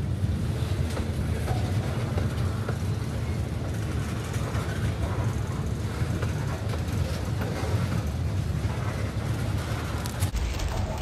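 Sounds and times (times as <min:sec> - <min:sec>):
freight cars rumbling on rails: 0:00.0 - 0:11.0.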